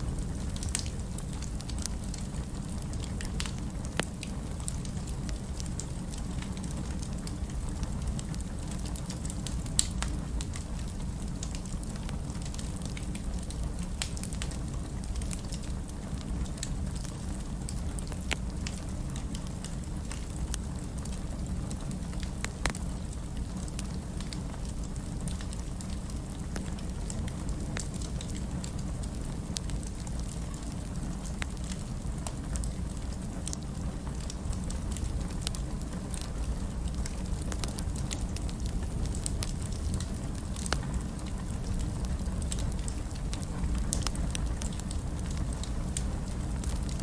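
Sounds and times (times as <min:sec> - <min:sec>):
fire crackles and pops: 0:00.0 - 0:47.0
low rumble of flames: 0:00.0 - 0:47.0.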